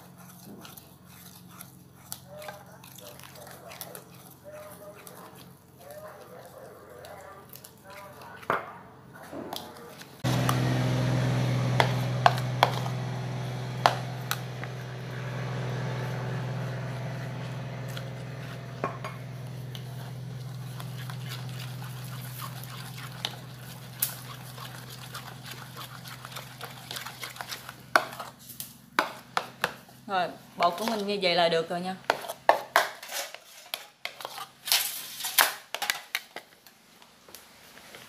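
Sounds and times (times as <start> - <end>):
spoon stirring thick batter: 0.0 - 30.0, 30.6 - 31.2, 32.0 - 34.6.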